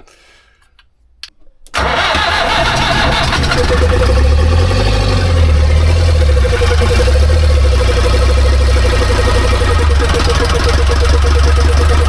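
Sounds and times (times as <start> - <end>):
diesel engine running: 1.8 - 12.0.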